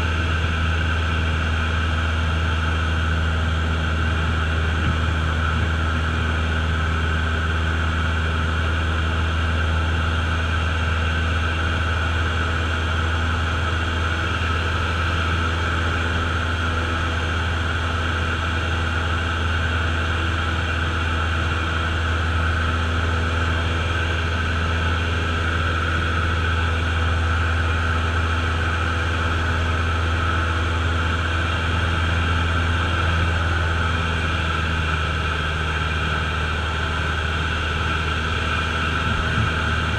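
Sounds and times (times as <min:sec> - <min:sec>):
aircraft engine hum in cabin: 0:00.0 - 0:39.9.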